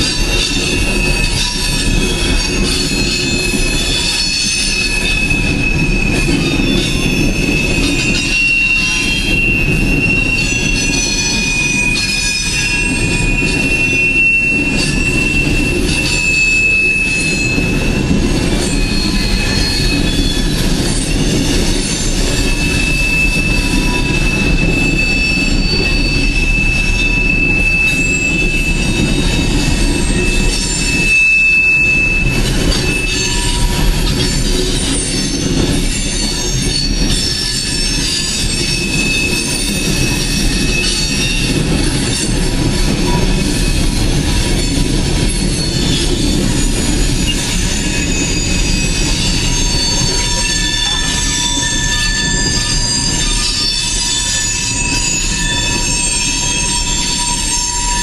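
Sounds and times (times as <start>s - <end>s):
freight train wheels rumbling: 0.0s - 58.0s
high-pitched wheel squeal: 0.0s - 58.0s.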